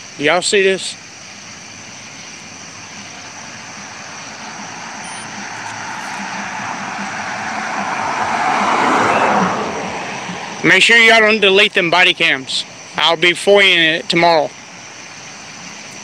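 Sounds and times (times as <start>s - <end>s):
road vehicle approaching: 0.8s - 16.0s.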